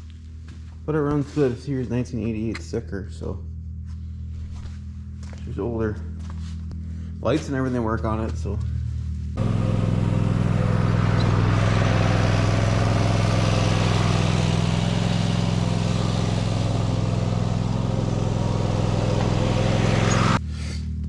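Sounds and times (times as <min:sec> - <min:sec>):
atv engine running: 0:00.0 - 0:20.7.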